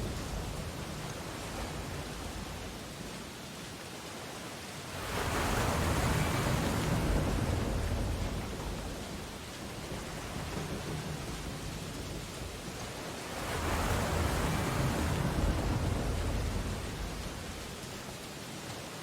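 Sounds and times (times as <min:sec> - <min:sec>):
sea waves washing on beach: 0:00.0 - 0:19.0.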